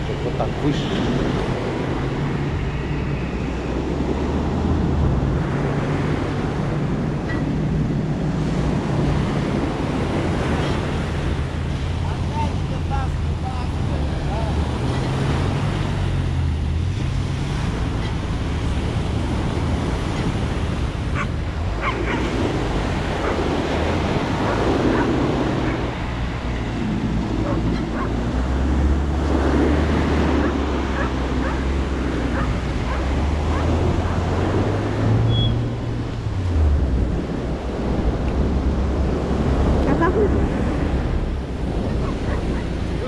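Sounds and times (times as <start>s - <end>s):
off-road vehicle engine running: 0.0s - 43.0s
surf breaking on beach: 0.0s - 43.0s
wind buffeting microphone: 0.0s - 43.0s.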